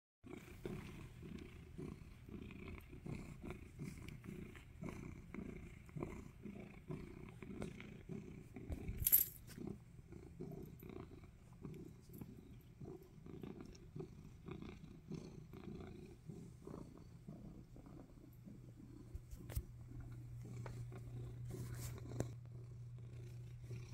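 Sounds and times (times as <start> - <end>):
cat purring: 0.3 - 23.9.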